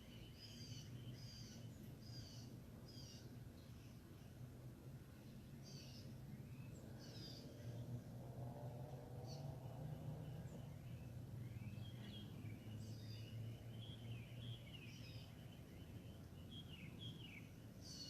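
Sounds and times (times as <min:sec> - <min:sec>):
birds chirping: 0:00.0 - 0:04.4, 0:05.0 - 0:08.2, 0:09.2 - 0:18.0.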